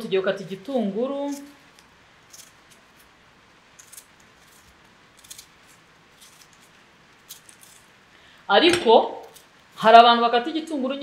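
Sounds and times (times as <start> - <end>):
knife cutting onion: 0.0 - 8.0, 8.6 - 9.6.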